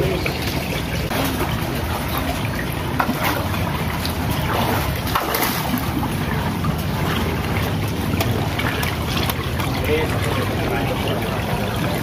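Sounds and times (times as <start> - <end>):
fish thrashing and splashing: 0.0 - 12.0.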